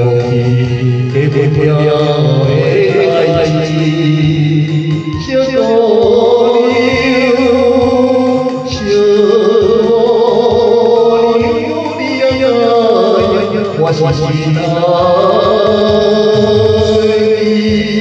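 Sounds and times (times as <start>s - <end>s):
person singing song: 0.0s - 18.0s.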